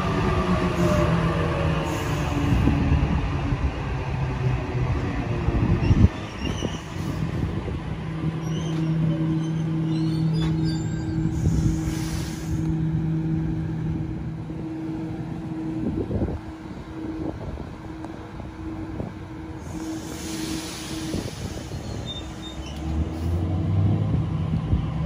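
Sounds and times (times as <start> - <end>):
electric train slowing: 0.0 - 25.0.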